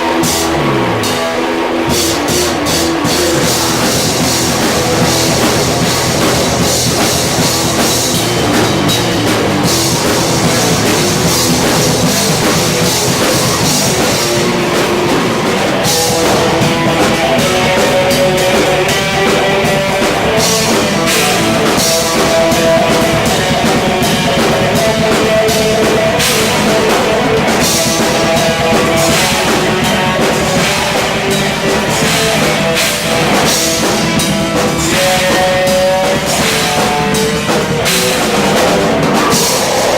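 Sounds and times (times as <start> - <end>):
drum kit: 0.0 - 39.9
electric guitars: 0.0 - 39.9
sustained guitar notes: 0.0 - 39.9.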